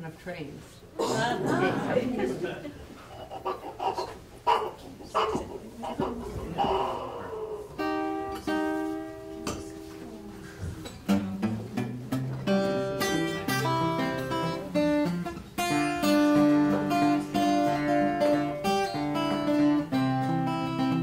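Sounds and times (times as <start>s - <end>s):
acoustic guitar playing: 3.2s - 21.0s.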